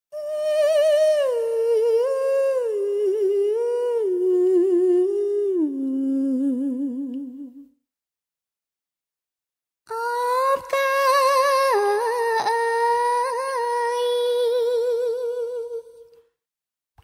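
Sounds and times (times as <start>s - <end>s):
solo voice singing with vibrato: 0.1s - 7.7s, 9.9s - 16.2s.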